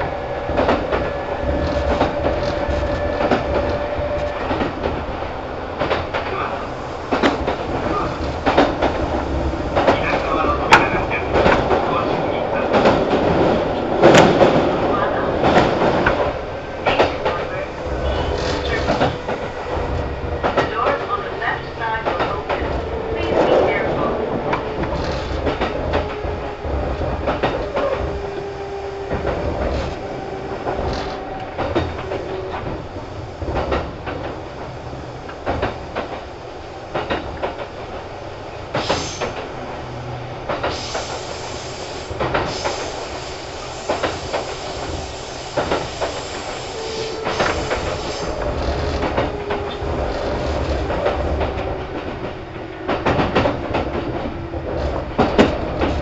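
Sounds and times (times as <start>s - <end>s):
wheels clacking over rail joints: 0.0s - 41.4s, 42.0s - 56.0s
train rumble: 0.0s - 56.0s.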